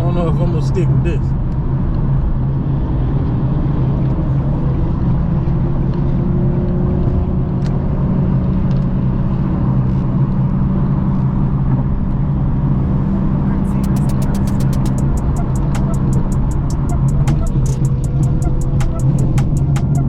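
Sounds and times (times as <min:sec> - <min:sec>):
car engine and road hum: 0:00.0 - 0:20.0.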